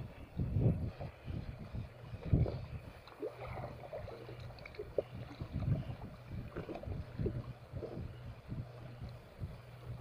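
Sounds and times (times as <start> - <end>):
water lapping against boat hull: 0.4 - 10.0.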